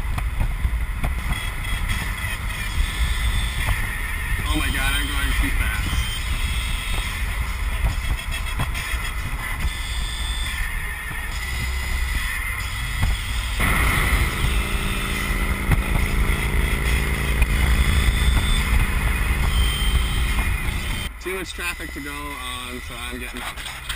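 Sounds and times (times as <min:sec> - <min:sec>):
road noise with low rumble: 0:00.0 - 0:23.9.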